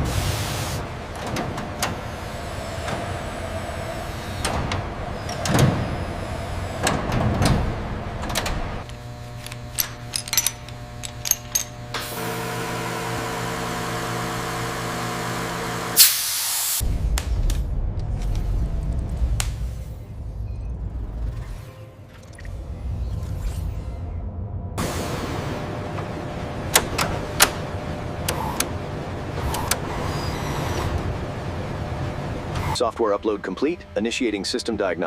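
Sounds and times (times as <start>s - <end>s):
machine hum of several tones: 0.0s - 16.0s, 20.3s - 35.0s.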